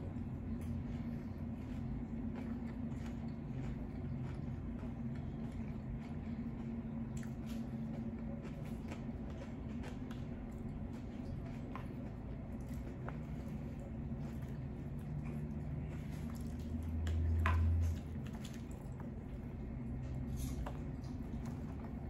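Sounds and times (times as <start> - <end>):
crunchy taco chewing: 0.0 - 22.0
steady low hum: 0.0 - 22.0.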